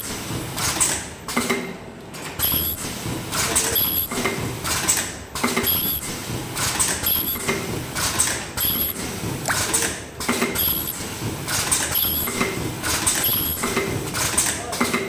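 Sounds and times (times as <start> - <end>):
pneumatic air hisses and clacks: 0.0 - 1.6, 2.2 - 15.0
welding machine running: 2.4 - 14.7.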